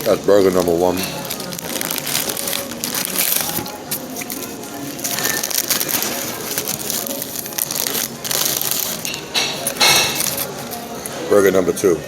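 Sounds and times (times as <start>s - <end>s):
food crunching while eating: 0.0s - 11.2s.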